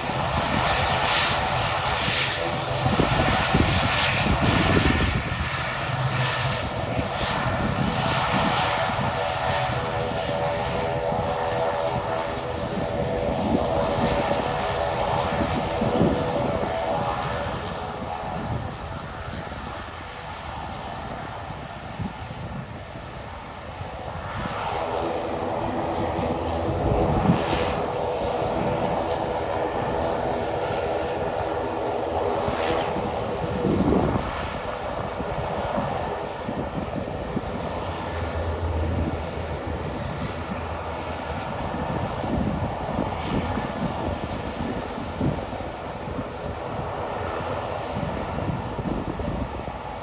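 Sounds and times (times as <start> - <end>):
propeller hum: 0.0 - 50.0
turboprop plane taxiing: 0.0 - 50.0.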